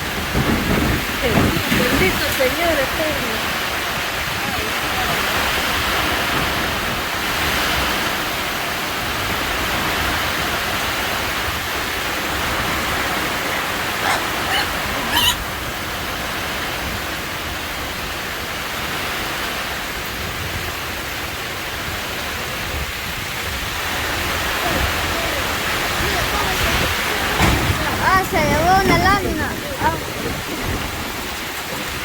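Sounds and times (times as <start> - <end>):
storm wind and rain rushing: 0.0 - 32.0.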